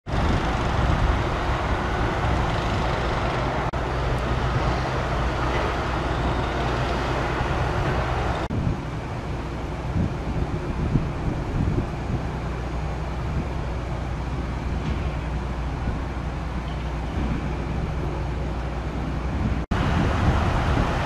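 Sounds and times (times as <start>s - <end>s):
diesel train engine drone: 0.0s - 21.0s
train rumbling: 0.1s - 21.0s.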